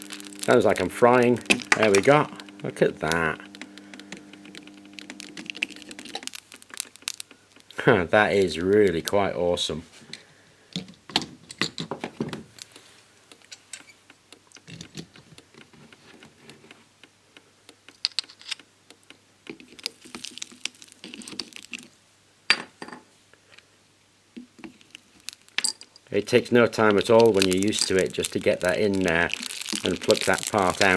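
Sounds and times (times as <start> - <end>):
molten solder crackling: 0.0 - 9.8, 12.2 - 22.0, 24.3 - 30.9.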